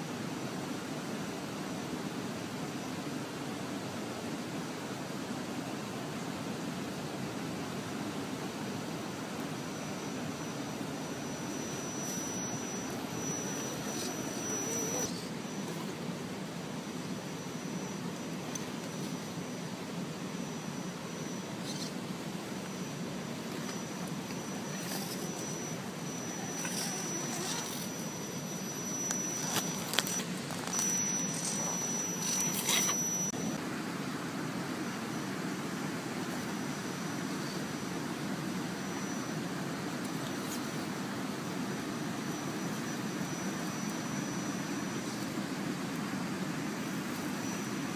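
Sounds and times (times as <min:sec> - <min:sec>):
high electric motor whine: 0:00.0 - 0:47.9.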